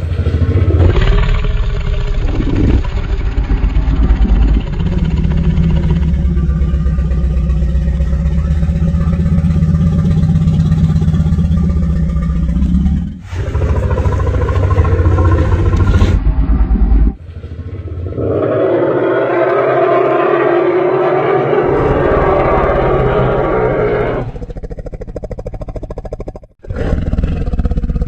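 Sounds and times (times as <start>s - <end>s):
higher-pitched roar: 0.0s - 25.2s
deep rumbling roar: 0.0s - 28.0s.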